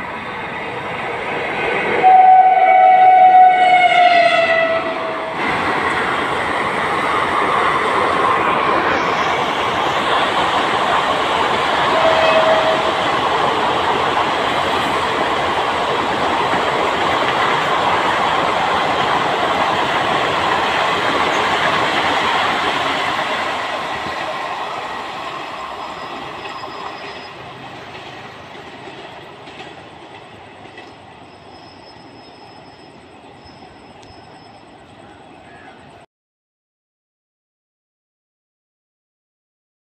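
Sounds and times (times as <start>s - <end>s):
train wheels rattling over track: 0.0s - 35.2s.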